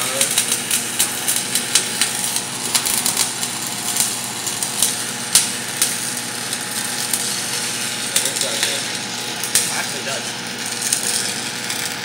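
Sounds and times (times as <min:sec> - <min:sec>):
welding arc crackling hiss: 0:00.0 - 0:12.0
welding arc sharp pops: 0:00.0 - 0:12.0.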